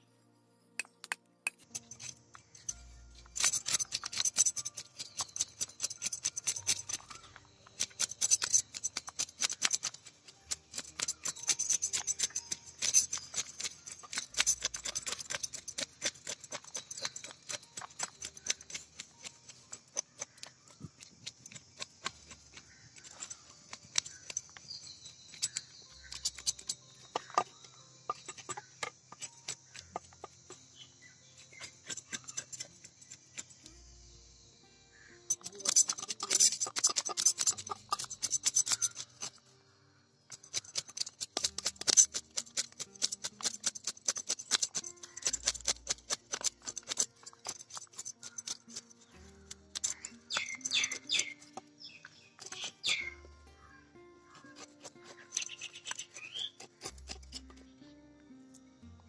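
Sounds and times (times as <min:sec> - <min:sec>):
knife scraping fish scales: 0:01.6 - 0:30.7, 0:31.4 - 0:33.6, 0:35.3 - 0:39.4, 0:40.3 - 0:53.2, 0:54.3 - 0:57.6.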